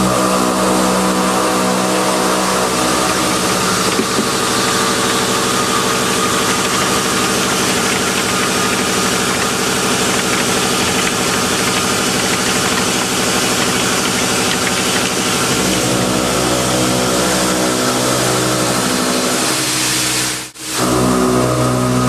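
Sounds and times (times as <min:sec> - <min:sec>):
engine running steadily: 0:00.0 - 0:19.5.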